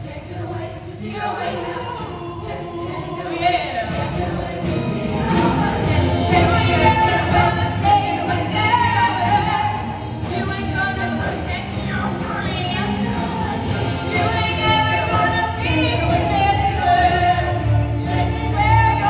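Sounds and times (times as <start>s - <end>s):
group of voices singing: 0.0s - 19.0s
musical theatre backing track: 0.0s - 19.0s.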